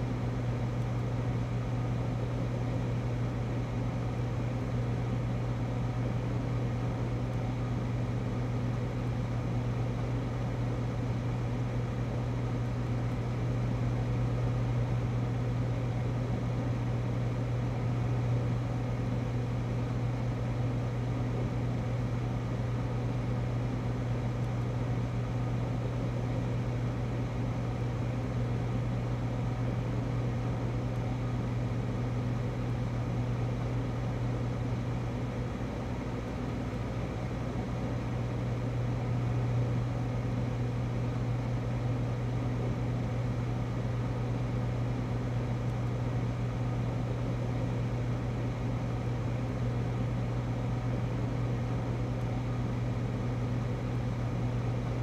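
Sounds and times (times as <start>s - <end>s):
freezer humming: 0.0s - 55.0s.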